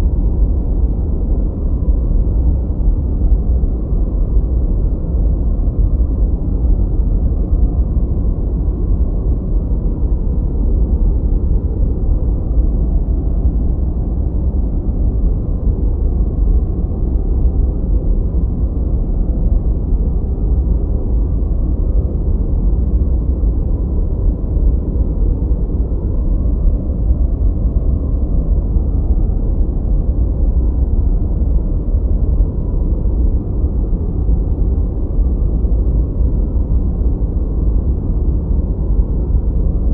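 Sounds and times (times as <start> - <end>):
steady low rumble noise: 0.0 - 39.9.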